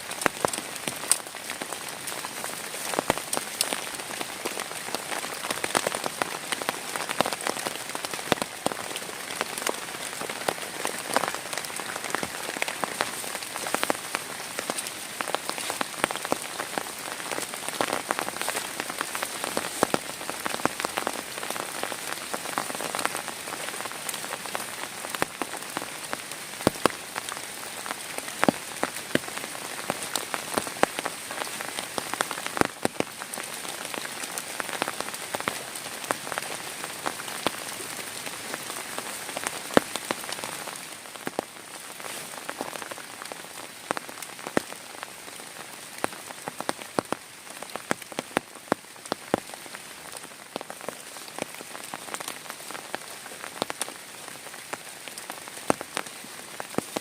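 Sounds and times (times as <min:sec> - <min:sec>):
heavy rain falling: 0:00.0 - 0:57.0
raindrops tapping: 0:00.0 - 0:57.0.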